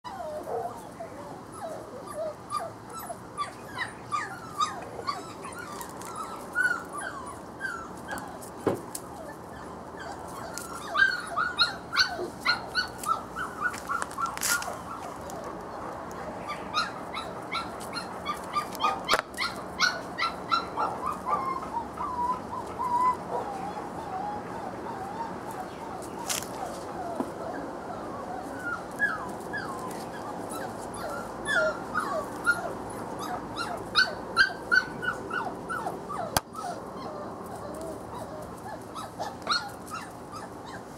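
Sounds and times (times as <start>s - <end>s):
puppy whimpering and yipping: 0.1s - 0.9s, 1.5s - 15.5s, 16.5s - 40.9s.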